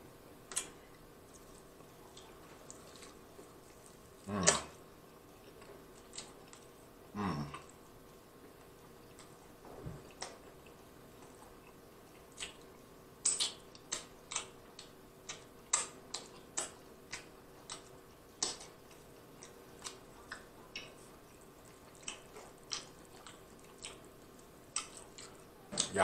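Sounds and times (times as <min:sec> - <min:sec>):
wet chewing and lip smacks: 0:00.5 - 0:04.8, 0:05.4 - 0:06.8, 0:07.5 - 0:26.0.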